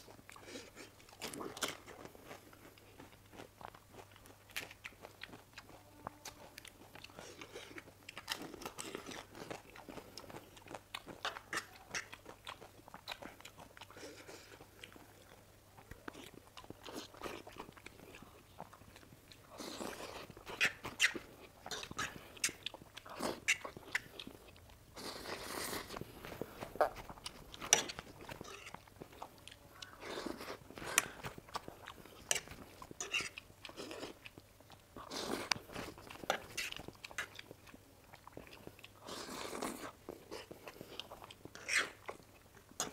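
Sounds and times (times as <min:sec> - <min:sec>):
noodles being chewed: 0:00.0 - 0:42.9.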